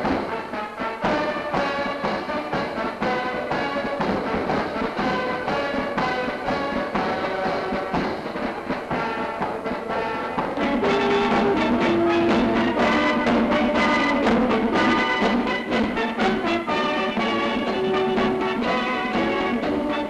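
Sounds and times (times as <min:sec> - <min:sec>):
military band playing a march: 0:00.0 - 0:20.0.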